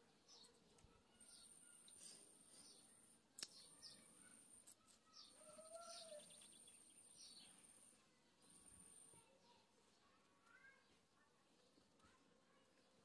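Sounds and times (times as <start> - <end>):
faint bird chirps: 0.2 - 13.0.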